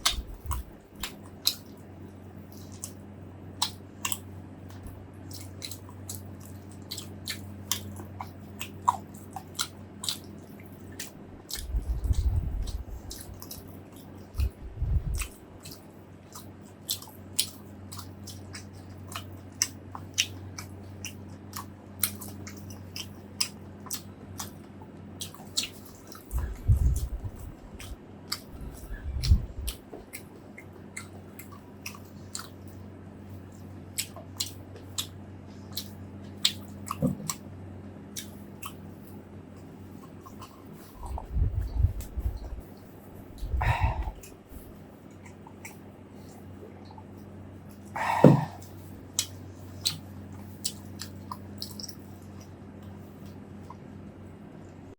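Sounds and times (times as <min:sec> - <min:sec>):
close chewing and mouth clicks: 0:00.0 - 0:54.9
steady low hum: 0:00.0 - 0:54.9.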